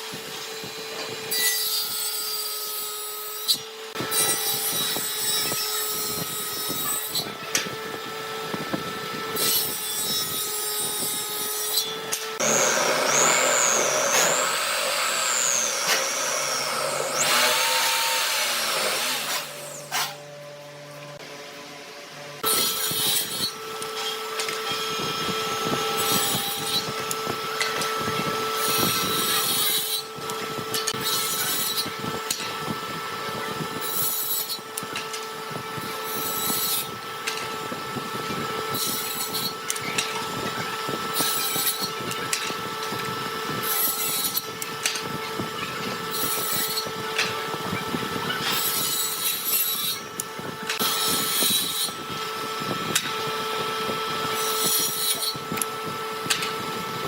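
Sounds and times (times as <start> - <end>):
power tool rasping wood: 0.6 - 20.4, 22.4 - 53.4, 54.2 - 57.0.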